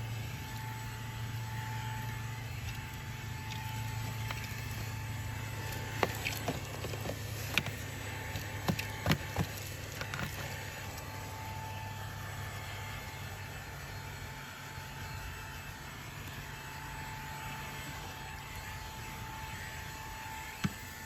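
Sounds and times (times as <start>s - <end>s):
handheld vacuum running: 0.0s - 21.0s.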